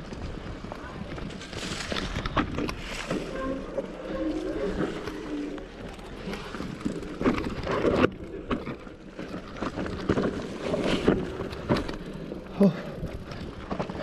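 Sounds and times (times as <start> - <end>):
bike knocks and rattles: 0.0 - 14.0
bike tyres over stones and dirt: 0.0 - 14.0.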